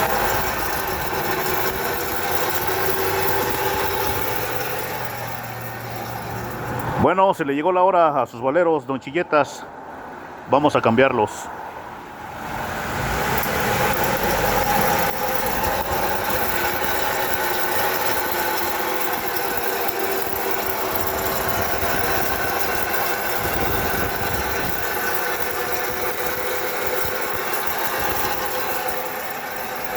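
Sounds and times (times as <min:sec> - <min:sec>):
wheel bearing droning: 0:00.0 - 0:08.9, 0:09.8 - 0:29.9.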